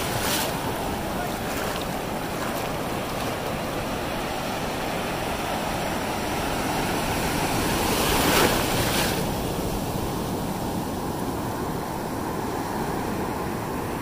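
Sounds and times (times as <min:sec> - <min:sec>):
ocean surf washing on beach: 0:00.0 - 0:14.0.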